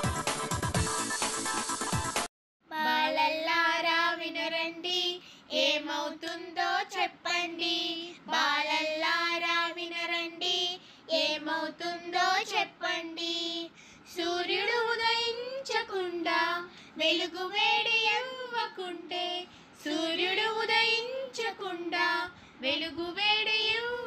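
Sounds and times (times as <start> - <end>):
woman singing: 2.7 - 24.0.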